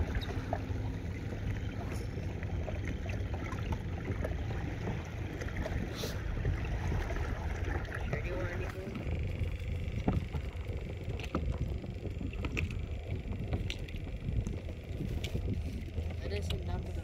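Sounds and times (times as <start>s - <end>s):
water lapping and splashing: 0.0s - 17.0s
wind rumble on microphone: 0.0s - 17.0s.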